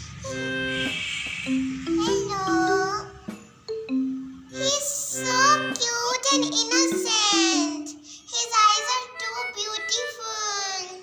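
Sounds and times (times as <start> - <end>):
song with child-like singing: 0.0 - 11.0.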